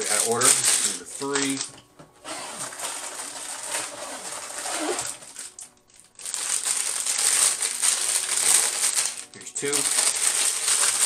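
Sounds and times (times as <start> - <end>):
plastic bags crinkling: 0.0 - 1.8, 2.4 - 11.0.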